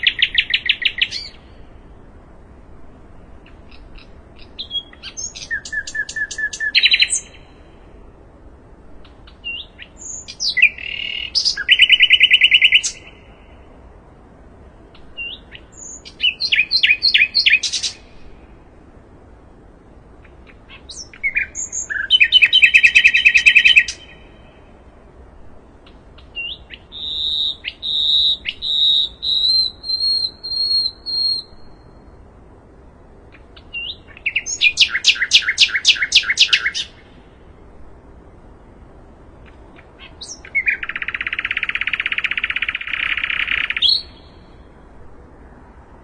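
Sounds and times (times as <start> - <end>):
faint steady hiss: 0.0 - 46.0
songbird singing: 0.0 - 46.0.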